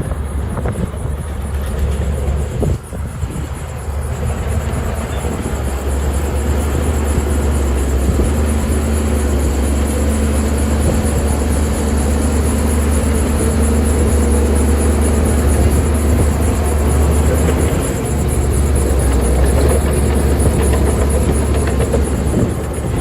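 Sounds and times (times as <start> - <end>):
heavy diesel machinery rumbling: 0.0 - 23.0.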